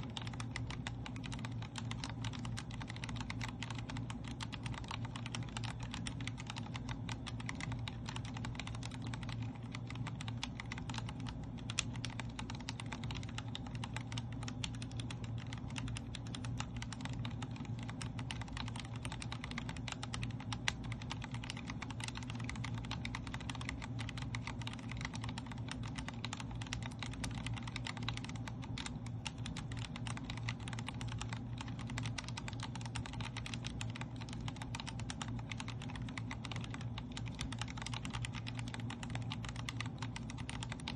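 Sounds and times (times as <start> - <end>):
fast typing on mechanical keyboard: 0.0 - 40.9
steady low hum: 0.0 - 40.9.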